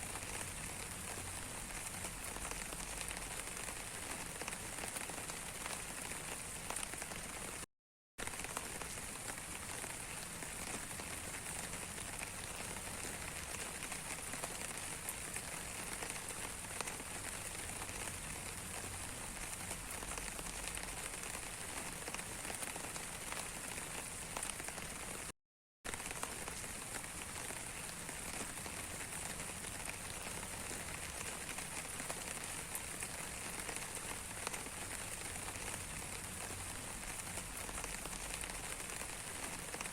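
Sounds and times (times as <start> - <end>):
steady rain falling: 0.0 - 25.3, 25.9 - 39.9.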